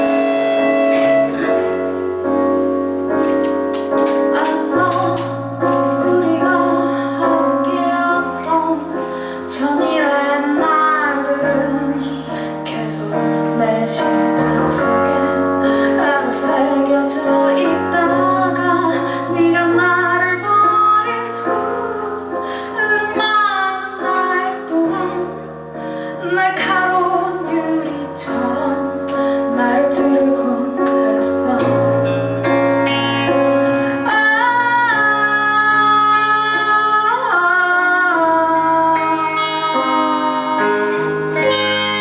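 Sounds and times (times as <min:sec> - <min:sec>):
instrumental accompaniment: 0:00.0 - 0:42.0
woman singing a slow song: 0:04.3 - 0:32.6, 0:33.5 - 0:42.0.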